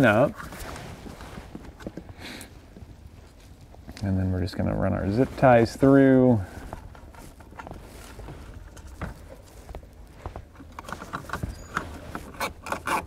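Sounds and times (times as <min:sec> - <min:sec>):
handling noises: 0:00.0 - 0:13.0.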